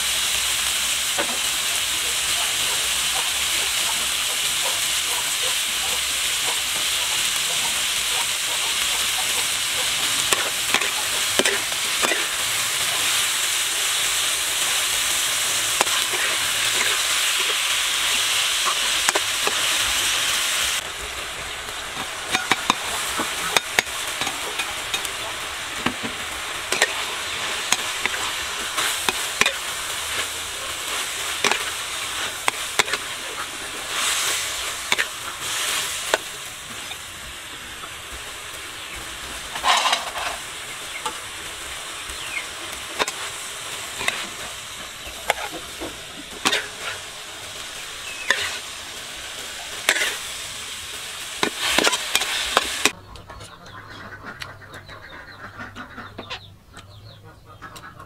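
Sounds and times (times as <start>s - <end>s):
beef sizzling in a wok: 0.0s - 53.0s
spatula clicking and scraping wok: 0.3s - 53.6s.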